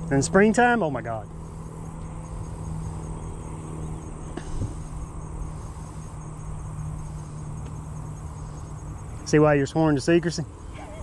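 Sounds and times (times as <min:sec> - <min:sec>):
insects chirping: 0:00.0 - 0:11.0
steady low hum: 0:00.0 - 0:11.0.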